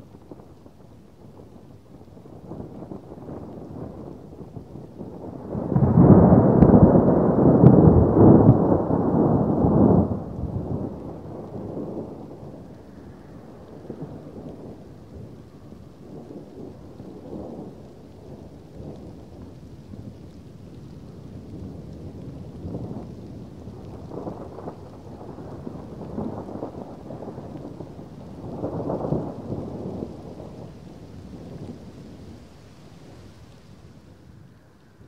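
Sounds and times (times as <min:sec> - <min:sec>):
rain hiss: 0:00.0 - 0:35.0
roll of thunder: 0:01.2 - 0:35.0.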